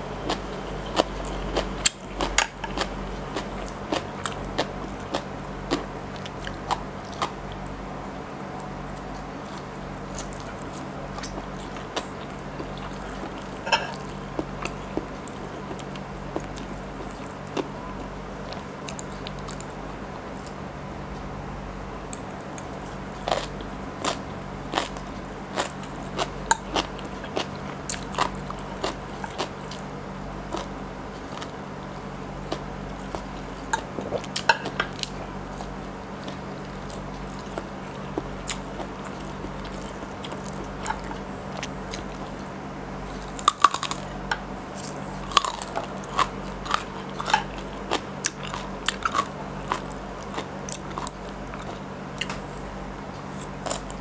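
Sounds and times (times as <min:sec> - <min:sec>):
crunchy food chewing: 0:00.0 - 0:20.7, 0:22.0 - 0:54.0
faint low hum: 0:00.0 - 0:54.0.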